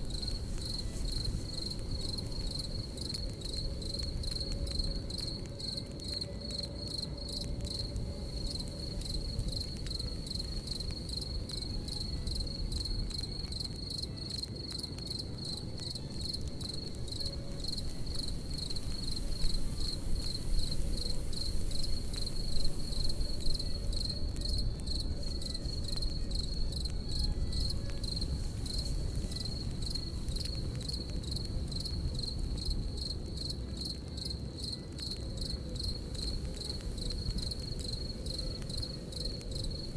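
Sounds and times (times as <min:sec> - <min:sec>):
crackling campfire: 0:00.0 - 0:39.9
crickets chirping: 0:00.0 - 0:39.9.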